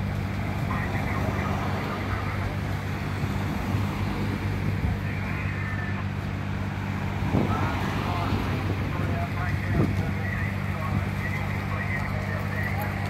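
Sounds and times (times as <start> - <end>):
road traffic: 0.0 - 13.0
vehicle engine idling: 0.0 - 13.0.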